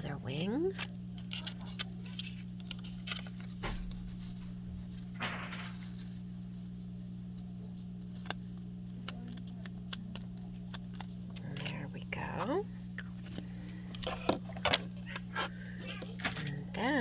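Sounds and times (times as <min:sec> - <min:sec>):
low electrical hum: 0:00.0 - 0:17.0
paper craft clicks and rustle: 0:00.7 - 0:06.7, 0:08.0 - 0:17.0.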